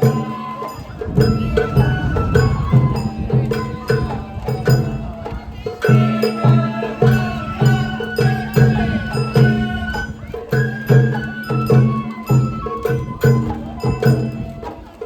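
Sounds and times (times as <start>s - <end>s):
bamboo flute melody: 0.0s - 15.0s
taiko drums beating: 0.0s - 15.0s.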